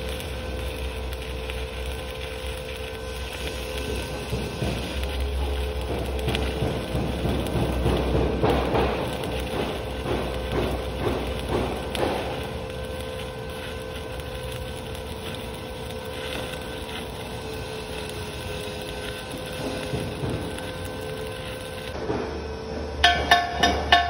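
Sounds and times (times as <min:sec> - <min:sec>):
welding arc crackling and sizzling: 0:00.0 - 0:22.0.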